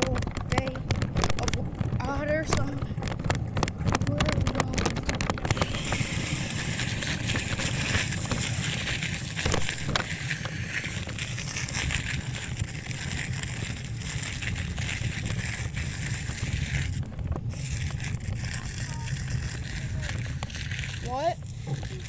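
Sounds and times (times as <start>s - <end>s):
small clicks and rattles: 0.0s - 22.0s
tyres rolling on pavement: 0.0s - 22.0s
wind buffeting microphone: 0.0s - 22.0s.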